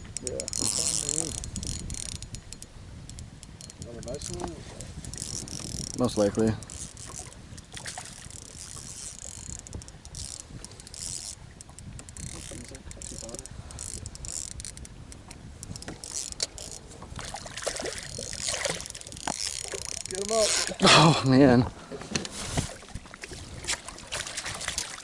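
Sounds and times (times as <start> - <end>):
fishing reel cranking: 0.0 - 20.8.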